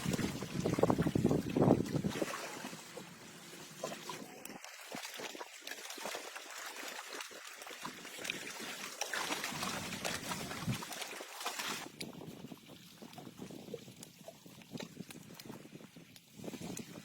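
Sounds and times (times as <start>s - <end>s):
water splashing and lapping: 0.0s - 17.0s.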